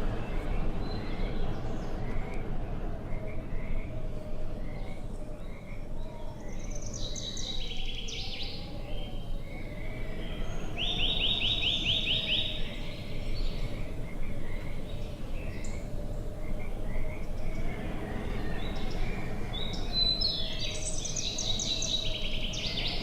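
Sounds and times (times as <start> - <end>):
low background noise: 0.0 - 23.0
songbirds singing: 0.0 - 23.0.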